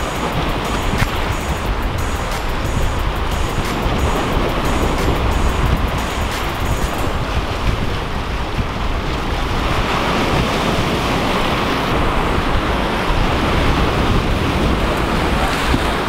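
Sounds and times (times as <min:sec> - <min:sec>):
ocean surf breaking on rocks: 0:00.0 - 0:16.0
wind buffeting microphone: 0:00.0 - 0:16.0.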